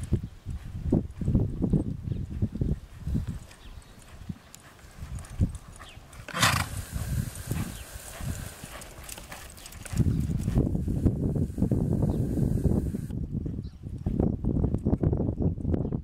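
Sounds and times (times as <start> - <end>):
horse hoofbeats on soft dirt: 0.0 - 16.0.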